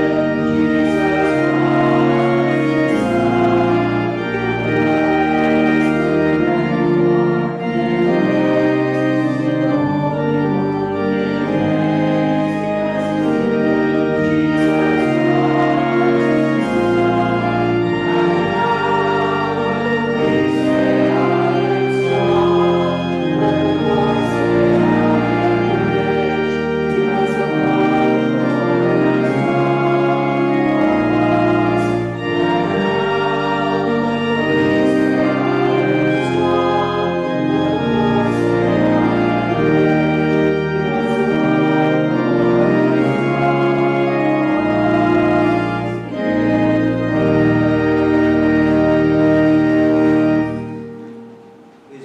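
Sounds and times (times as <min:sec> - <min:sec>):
choir singing sustained chords: 0:00.0 - 0:52.0
organ: 0:00.0 - 0:52.0.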